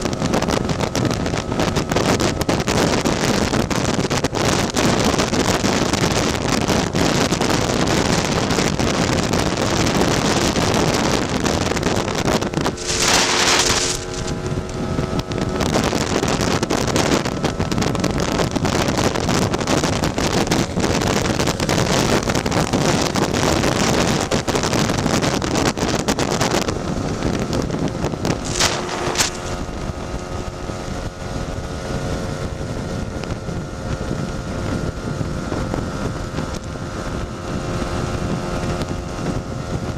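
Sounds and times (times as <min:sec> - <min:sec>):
scooter engine running: 0:00.0 - 0:39.9
wind buffeting microphone: 0:00.0 - 0:39.9.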